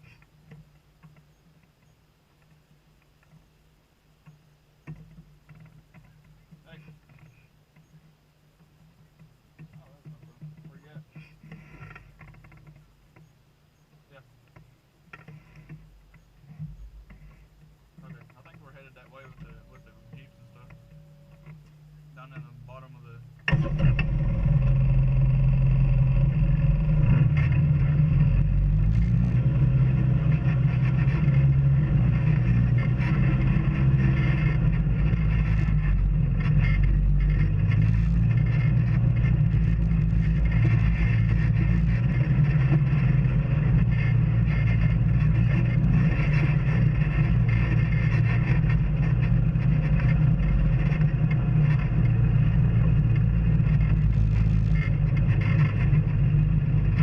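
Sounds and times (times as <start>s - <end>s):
vehicle engine droning: 9.0s - 57.0s.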